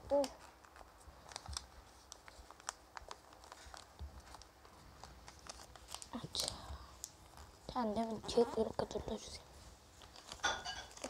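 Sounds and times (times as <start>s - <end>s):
paper crinkling as folded: 0.1s - 11.0s.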